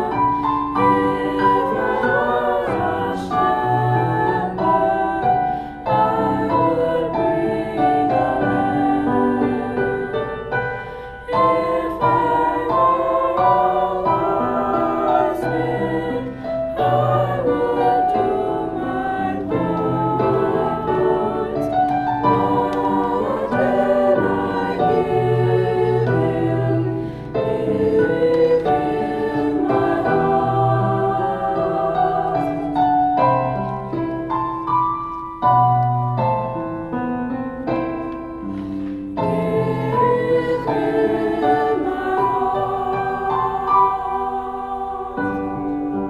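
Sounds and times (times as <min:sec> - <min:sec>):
choir singing: 0:00.0 - 0:34.6, 0:37.6 - 0:46.0
piano accompaniment: 0:00.0 - 0:46.0.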